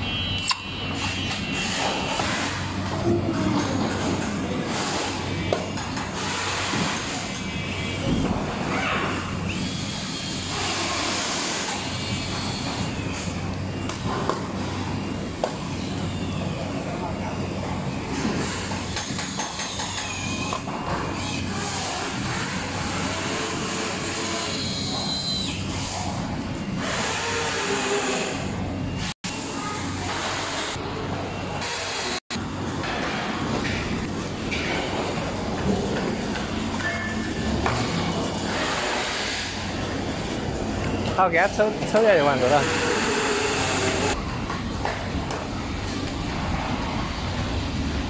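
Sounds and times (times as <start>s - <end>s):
factory hum and hiss: 0.0s - 48.0s.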